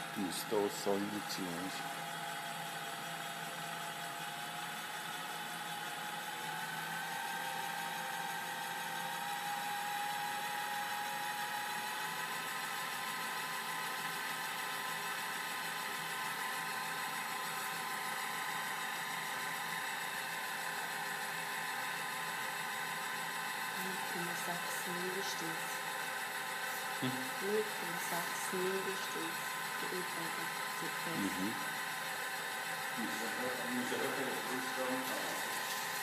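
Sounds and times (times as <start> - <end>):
electric stirrer motor whirring: 0.0 - 36.0.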